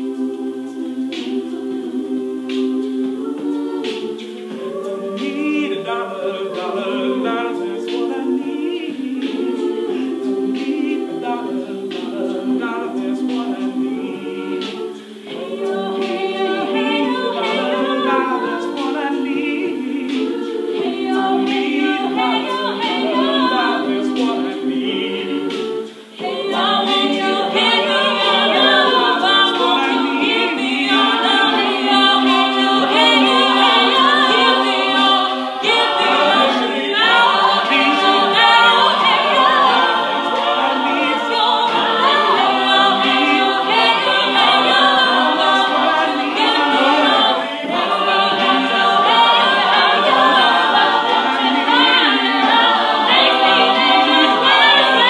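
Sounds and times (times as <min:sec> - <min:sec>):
a cappella group singing in harmony: 0:00.0 - 0:55.0.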